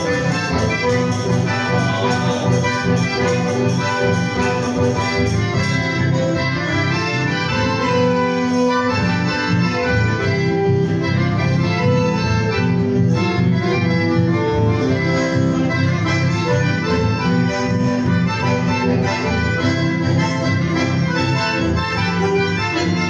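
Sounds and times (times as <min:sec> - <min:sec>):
accordion: 0:00.0 - 0:23.0
bandoneon: 0:00.0 - 0:23.0.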